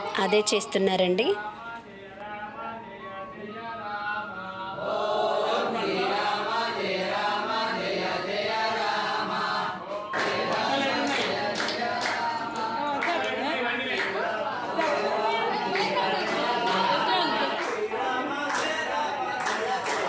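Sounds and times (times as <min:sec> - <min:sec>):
group chanting devotional song: 0:00.0 - 0:20.0.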